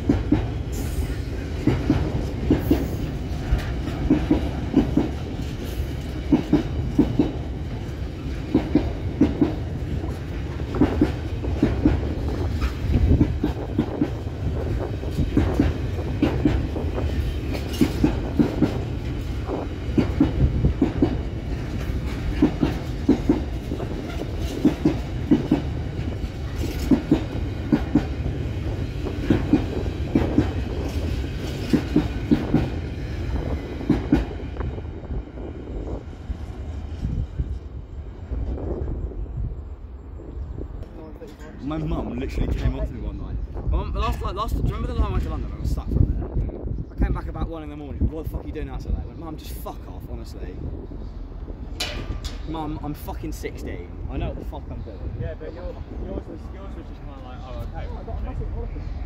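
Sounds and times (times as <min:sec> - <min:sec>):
wheels clickety-clack on rail joints: 0:00.0 - 0:39.2, 0:40.8 - 0:59.0
train wagons rumbling: 0:00.0 - 0:59.0.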